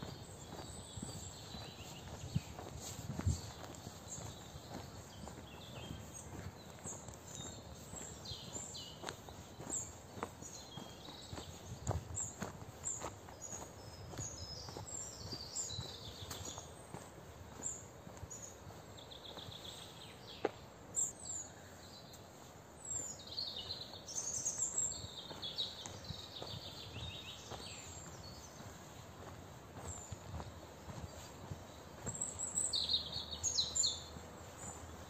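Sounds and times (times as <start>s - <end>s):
footsteps on a path: 0.0s - 35.0s
songbirds chirping and trilling: 0.0s - 35.0s.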